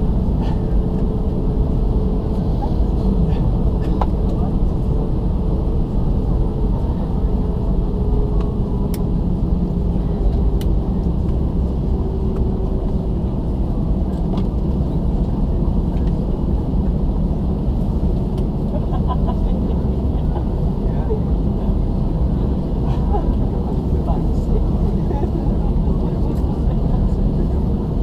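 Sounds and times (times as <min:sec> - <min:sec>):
jet engines rumbling in cabin: 0:00.0 - 0:28.0.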